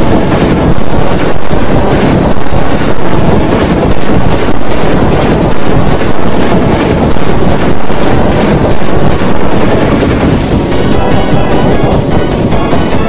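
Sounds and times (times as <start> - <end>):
loud distorted noise: 0.0 - 13.0.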